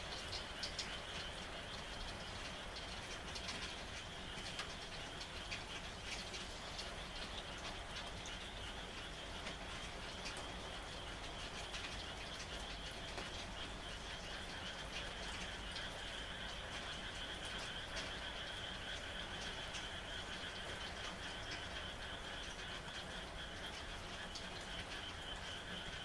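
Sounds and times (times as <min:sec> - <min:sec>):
frogs trilling: 0:00.0 - 0:26.0
light rain pattering: 0:00.0 - 0:26.0.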